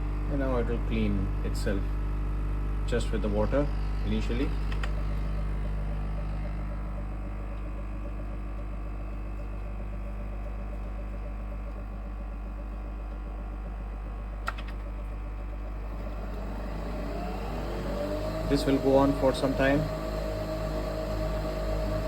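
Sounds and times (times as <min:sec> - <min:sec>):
coffee machine pump humming: 0:00.0 - 0:22.0.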